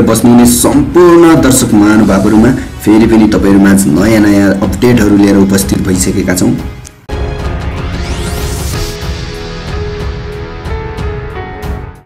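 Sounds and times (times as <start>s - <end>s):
intro music with steady beat: 0.9s - 12.0s.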